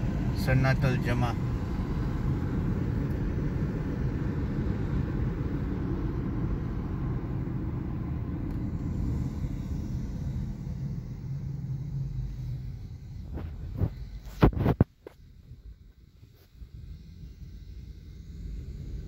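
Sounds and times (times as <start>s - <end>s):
car road rumble from inside: 0.0s - 17.7s.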